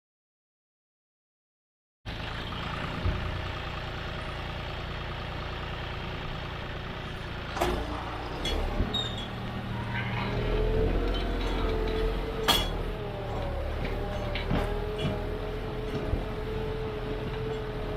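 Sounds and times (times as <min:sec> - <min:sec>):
tractor diesel engine running: 0:02.1 - 0:17.9.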